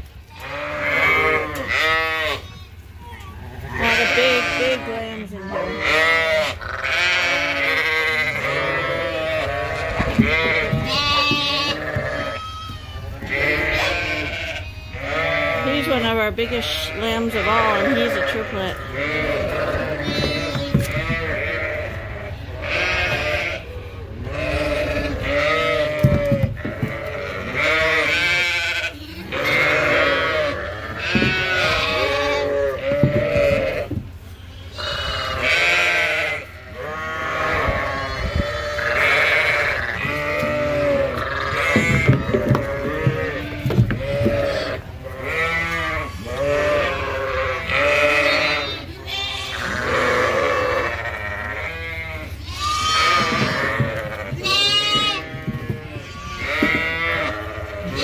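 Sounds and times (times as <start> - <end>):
lambs bleating: 0.3 - 58.0.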